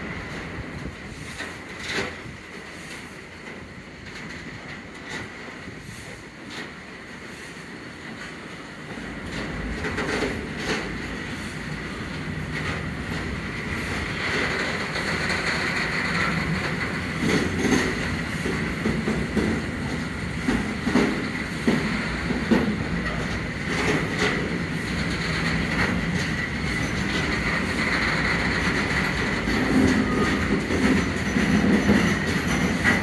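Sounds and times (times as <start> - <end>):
train wheels rumbling and clicking: 0.0 - 33.0.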